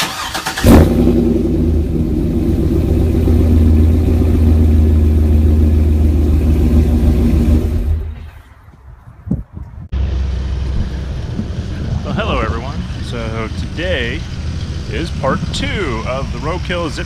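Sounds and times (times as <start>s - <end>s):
car engine idling: 0.0s - 8.4s, 9.9s - 17.0s.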